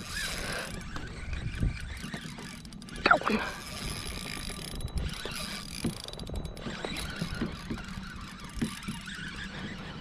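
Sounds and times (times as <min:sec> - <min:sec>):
fishing reel clicking: 0:00.0 - 0:10.0.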